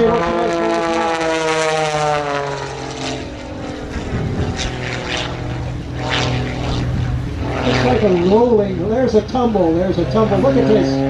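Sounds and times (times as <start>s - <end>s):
propeller plane engine in flight: 0.0s - 11.0s.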